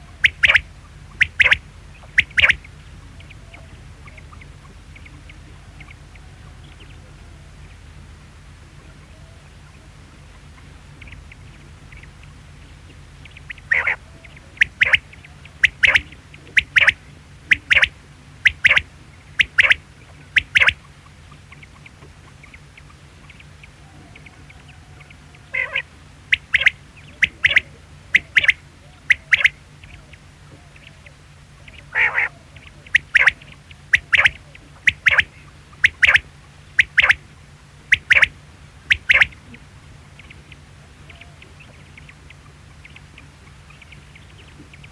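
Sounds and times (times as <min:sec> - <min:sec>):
quail calling: 0:00.0 - 0:08.0, 0:08.6 - 0:44.9.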